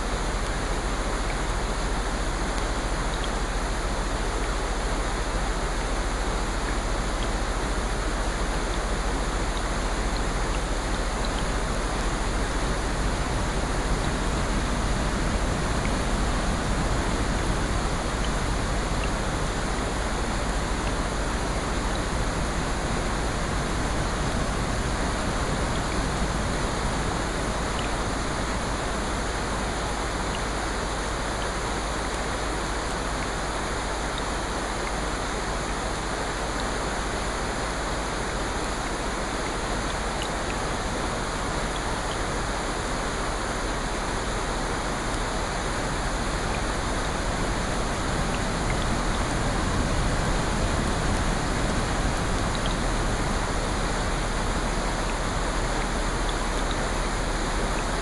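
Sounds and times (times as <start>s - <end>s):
rushing water hiss: 0.0s - 58.0s.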